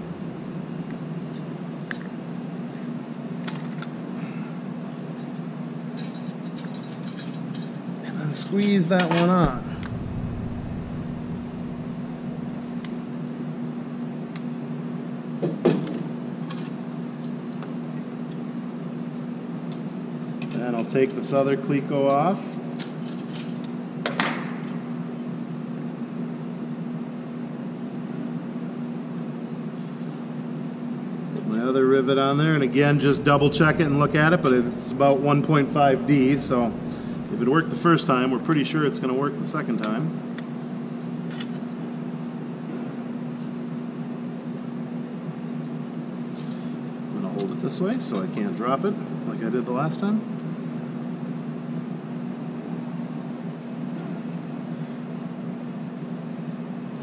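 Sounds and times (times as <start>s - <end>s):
ventilation hum: 0.0s - 57.0s.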